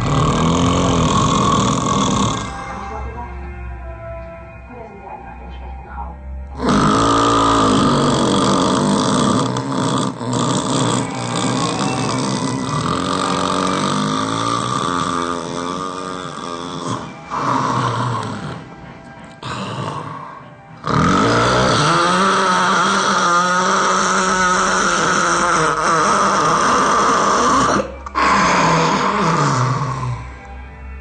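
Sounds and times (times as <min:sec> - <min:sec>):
loud snoring: 0:00.0 - 0:03.0, 0:06.5 - 0:30.6
music: 0:00.0 - 0:31.0.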